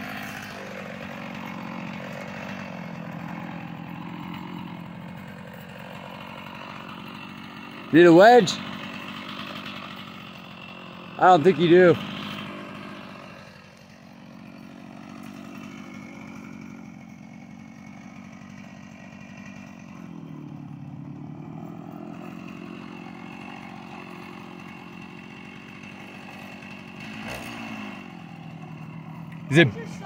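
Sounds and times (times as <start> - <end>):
chainsaw cutting tree trunk: 0.0 - 30.0.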